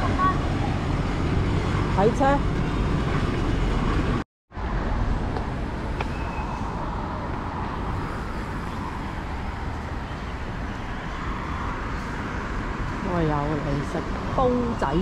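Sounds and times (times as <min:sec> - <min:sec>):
passing road traffic: 0:00.0 - 0:15.0.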